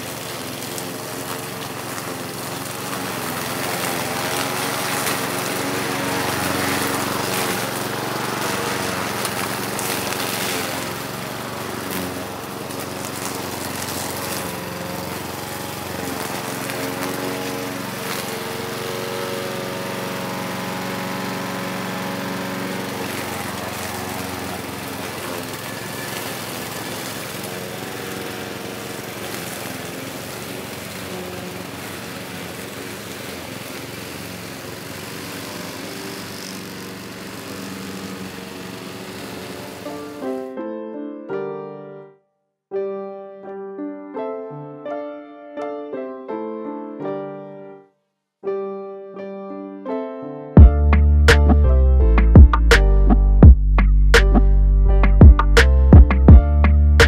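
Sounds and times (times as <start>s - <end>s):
lawn mower engine running: 0.0s - 40.4s, 50.6s - 57.0s.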